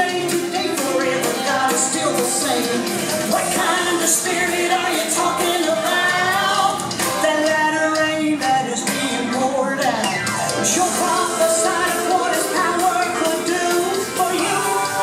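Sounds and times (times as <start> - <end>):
pop song with singer: 0.0 - 15.0
steady drum beat: 0.0 - 15.0.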